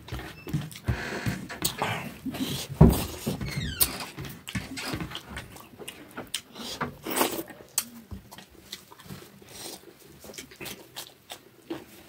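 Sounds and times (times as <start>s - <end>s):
chewing and lip-smacking: 1.6s - 12.0s.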